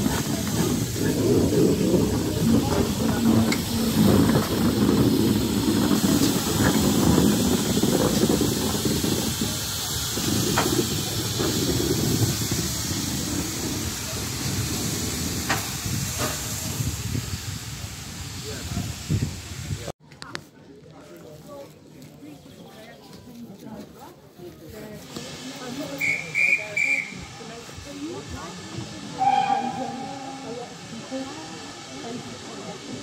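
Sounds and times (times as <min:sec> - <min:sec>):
steam locomotive hissing: 0:00.0 - 0:19.9, 0:24.6 - 0:33.0.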